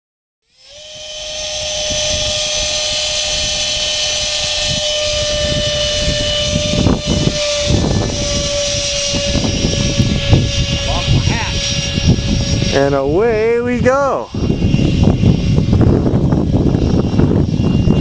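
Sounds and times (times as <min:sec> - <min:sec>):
electric ducted fan whine: 0:00.5 - 0:18.0
wind buffeting microphone: 0:00.8 - 0:18.0.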